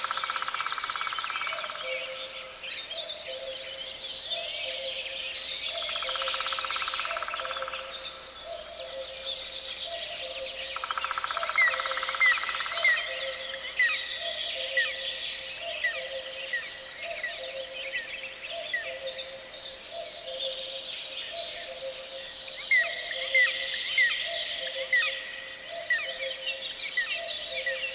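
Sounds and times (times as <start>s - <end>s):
songbirds chirping: 0.0s - 27.9s.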